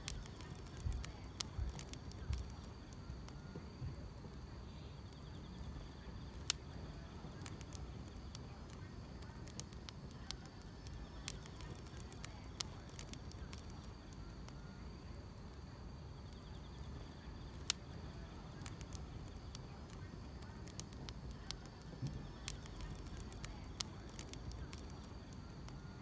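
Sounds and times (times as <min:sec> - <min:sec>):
insects chirping: 0:00.0 - 0:26.0
wood fire crackling: 0:00.0 - 0:26.0.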